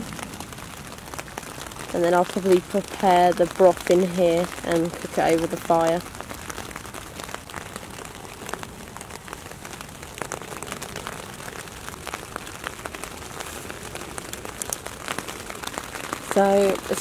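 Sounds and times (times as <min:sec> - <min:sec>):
rain on tent fabric: 0:00.0 - 0:17.0.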